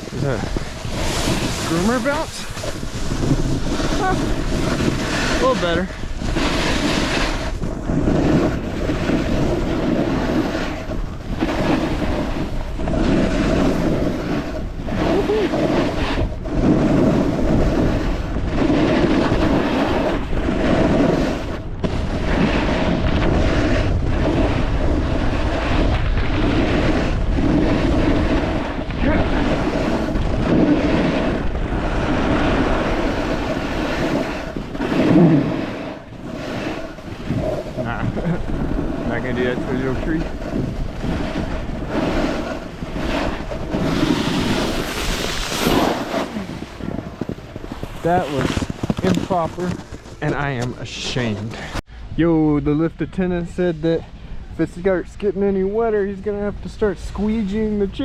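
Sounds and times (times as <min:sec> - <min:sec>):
snowboard scraping over snow: 0:00.0 - 0:58.0
wind buffeting microphone: 0:00.0 - 0:58.0.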